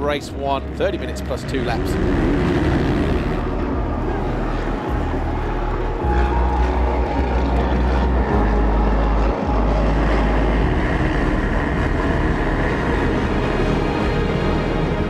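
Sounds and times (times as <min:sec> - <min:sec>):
motocross bikes accelerating: 0:00.0 - 0:15.0.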